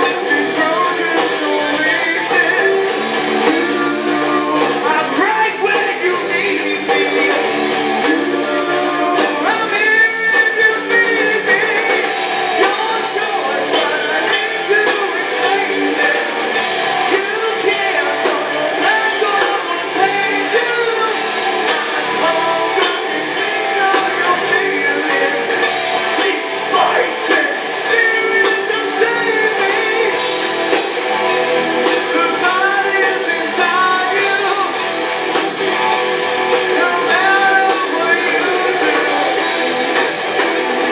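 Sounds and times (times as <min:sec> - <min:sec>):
drums: 0:00.0 - 0:40.9
electric guitars: 0:00.0 - 0:40.9
person singing: 0:00.0 - 0:40.9.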